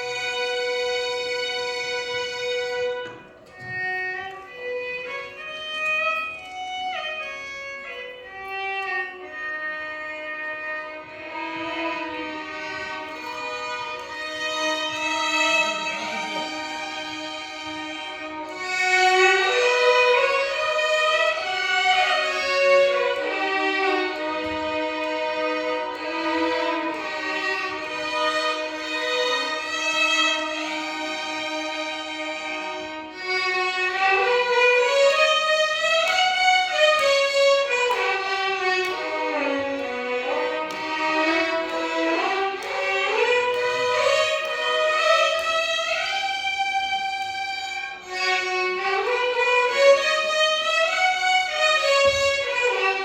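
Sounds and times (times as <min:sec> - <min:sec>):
violin orchestra melody: 0:00.0 - 0:53.0.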